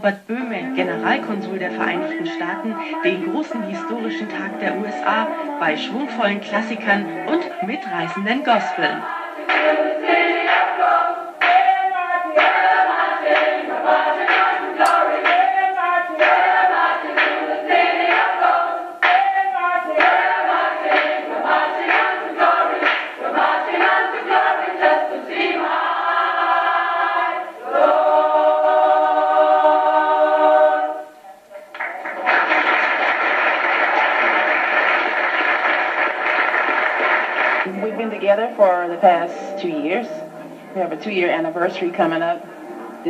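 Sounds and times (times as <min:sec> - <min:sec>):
gospel choir singing: 0:00.5 - 0:43.0.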